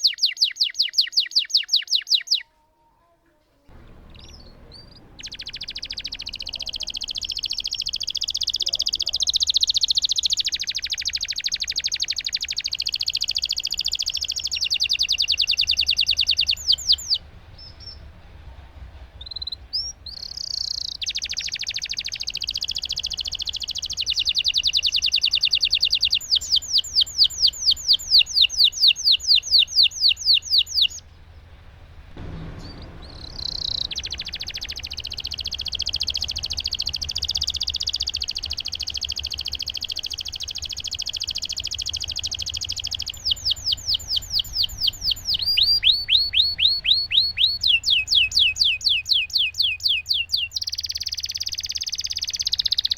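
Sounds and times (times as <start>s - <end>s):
canary singing trills: 0.0s - 2.5s, 3.7s - 18.1s, 19.2s - 31.5s, 32.2s - 52.9s.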